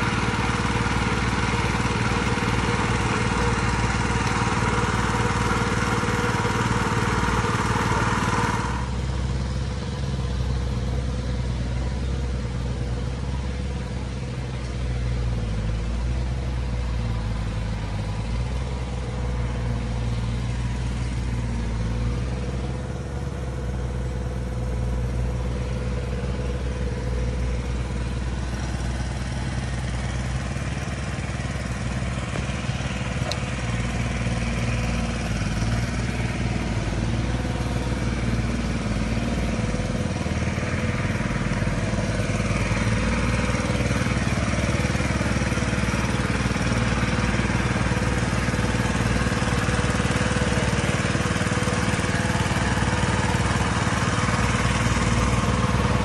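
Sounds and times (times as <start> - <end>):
pump engine running: 0.0 - 56.0.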